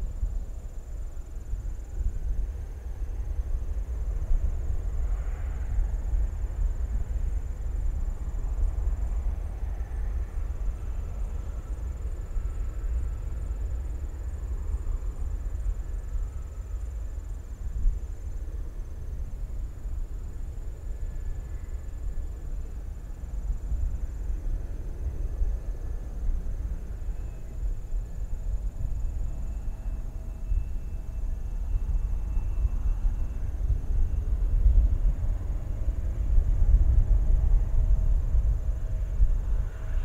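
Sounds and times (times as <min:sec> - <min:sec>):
distant jet engines roaring: 0:00.0 - 0:40.0.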